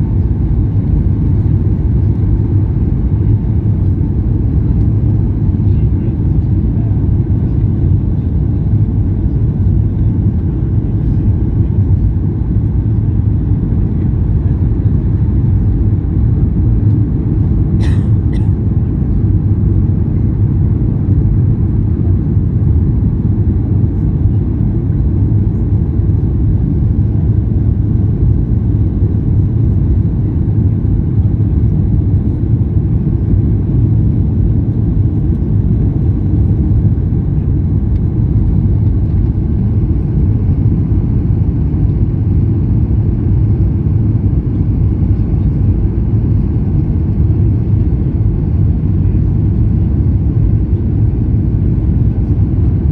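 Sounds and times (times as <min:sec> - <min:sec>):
airliner engine rumble: 0:00.0 - 0:52.9.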